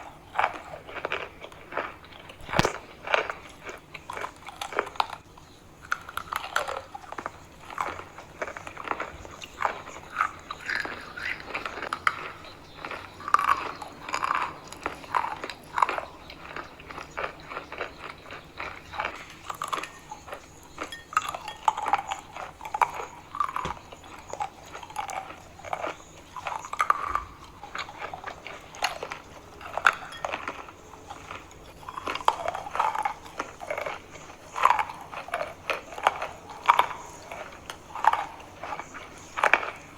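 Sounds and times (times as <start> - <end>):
person chewing chalk: 0.0 - 39.9.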